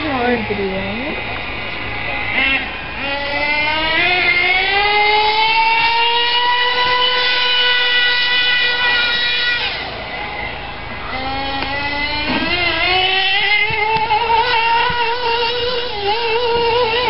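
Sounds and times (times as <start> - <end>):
toy car motor buzzing at high revs: 1.0 - 10.5, 11.1 - 17.0.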